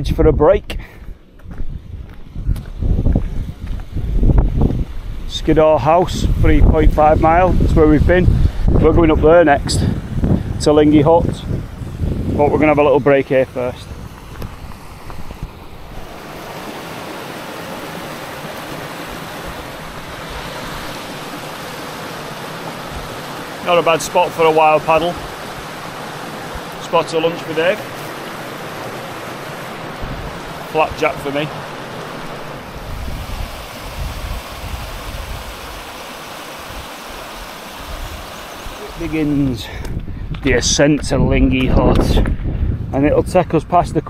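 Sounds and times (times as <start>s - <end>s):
wind buffeting microphone: 0.0s - 44.0s
stream rushing over stones: 4.0s - 39.9s.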